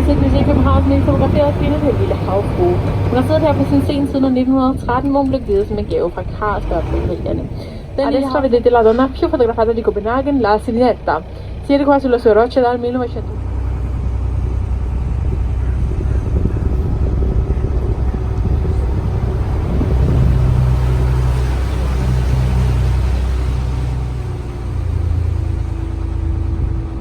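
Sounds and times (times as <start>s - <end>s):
boat engine rumbling: 0.0s - 27.0s.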